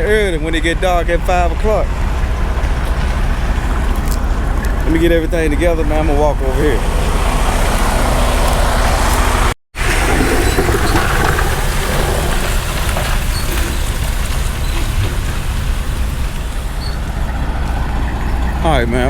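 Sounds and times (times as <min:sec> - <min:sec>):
diesel truck engines idling: 0:00.0 - 0:19.0.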